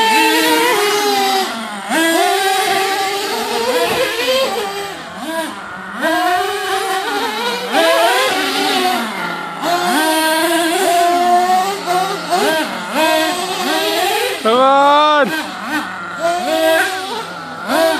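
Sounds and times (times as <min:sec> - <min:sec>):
small nitro engines revving: 0:00.0 - 0:17.9.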